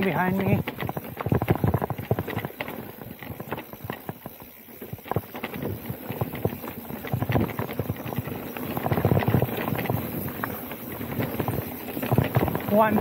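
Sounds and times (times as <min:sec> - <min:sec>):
bike rattling over dirt trail: 0:00.0 - 0:13.0.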